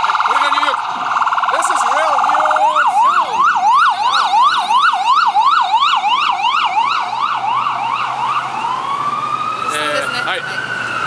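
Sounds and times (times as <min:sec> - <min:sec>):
ambulance siren yelp and wail: 0:00.0 - 0:11.0.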